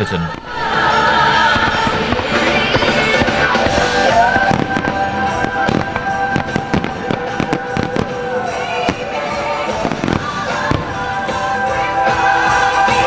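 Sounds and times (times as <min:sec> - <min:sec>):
fireworks bangs and crackles: 0:00.0 - 0:13.0
music with long held notes: 0:00.0 - 0:13.0.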